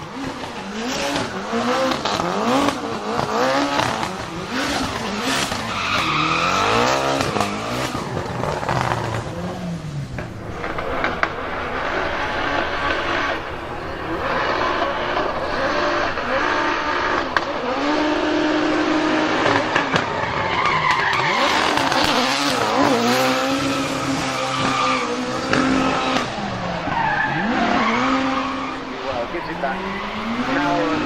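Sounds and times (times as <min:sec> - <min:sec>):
car engine revving: 0:00.0 - 0:31.0
tyres screeching: 0:00.0 - 0:31.0.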